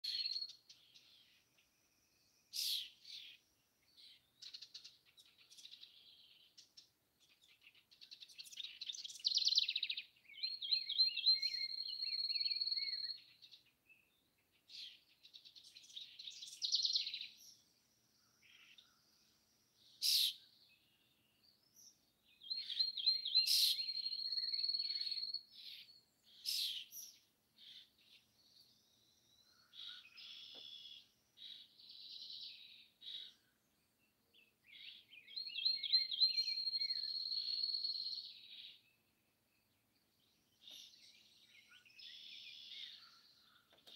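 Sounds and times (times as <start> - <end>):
songbirds singing: 0.0 - 43.9.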